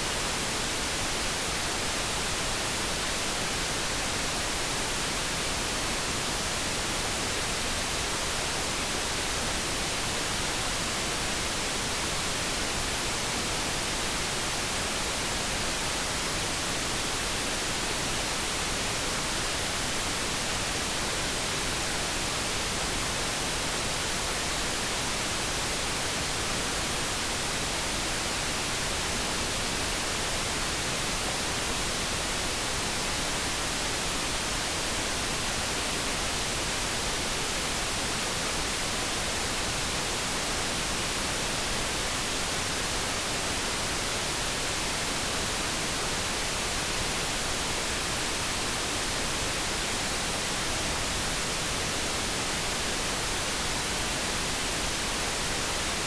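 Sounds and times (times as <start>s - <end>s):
steady generated noise hiss: 0.0s - 56.0s.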